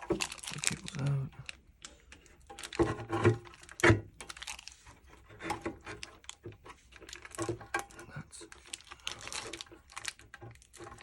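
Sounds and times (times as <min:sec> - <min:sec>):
parts rustling: 0:00.0 - 0:11.0.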